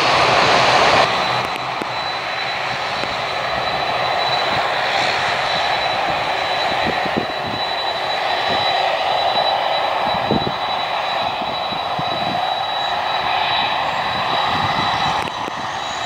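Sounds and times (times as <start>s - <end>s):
high whine: 0.0s - 16.0s
jet engines running: 0.0s - 16.0s.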